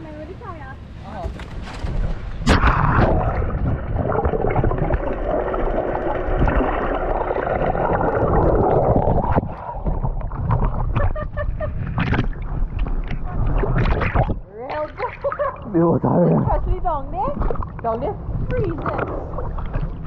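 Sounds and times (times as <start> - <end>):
muffled water sloshing and gurgling: 1.9 - 20.0.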